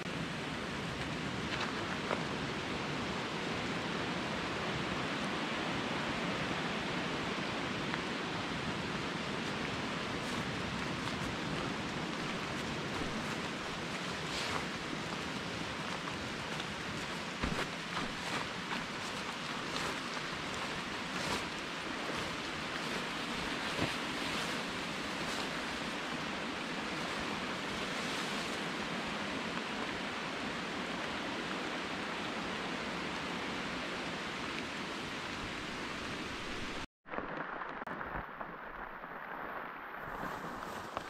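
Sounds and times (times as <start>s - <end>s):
rain on forest foliage: 0.0s - 41.0s.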